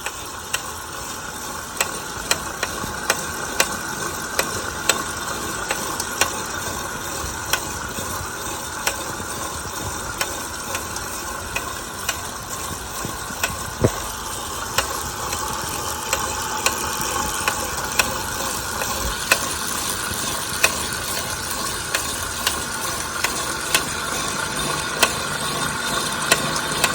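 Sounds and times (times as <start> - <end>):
bike trainer whirring: 0.0 - 26.9.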